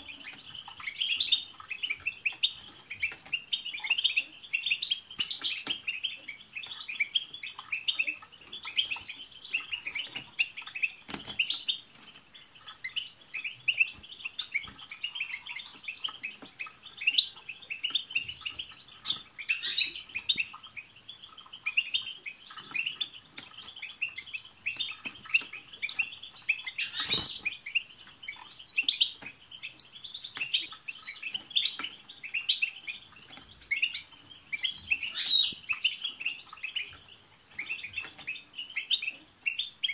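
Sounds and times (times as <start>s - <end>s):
finches twittering and chattering: 0.0s - 39.9s.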